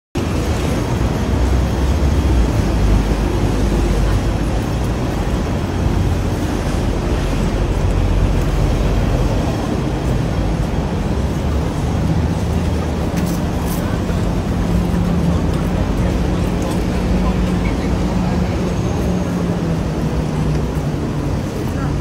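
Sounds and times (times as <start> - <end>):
street noise: 0.1 - 22.0
road traffic rumble: 0.2 - 22.0.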